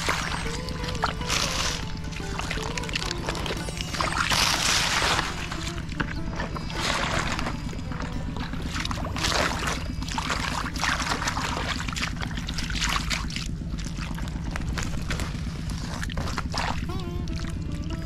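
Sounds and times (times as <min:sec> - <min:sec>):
low engine drone: 0:00.0 - 0:18.0
water splashing: 0:00.0 - 0:18.0.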